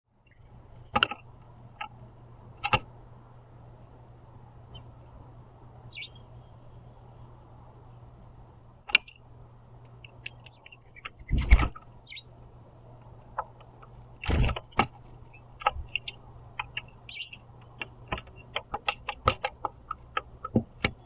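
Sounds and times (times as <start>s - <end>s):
low steady hum: 0.1s - 21.0s.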